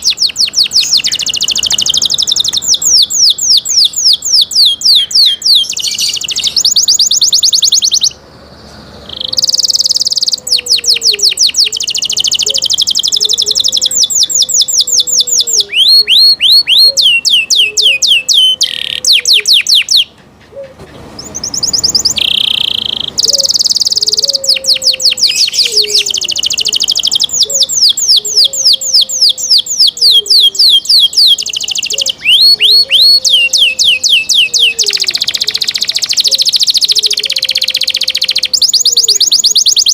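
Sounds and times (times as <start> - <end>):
canary chirps and trills: 0.0 - 39.9.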